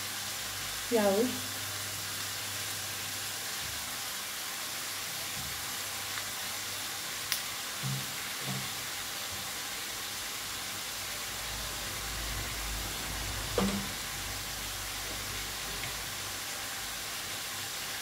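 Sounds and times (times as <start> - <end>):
chicken frying in oil: 0.0 - 18.0.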